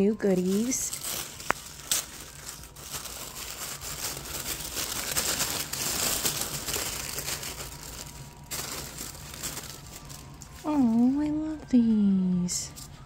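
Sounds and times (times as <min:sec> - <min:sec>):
tissue paper crinkling: 0:00.0 - 0:11.6.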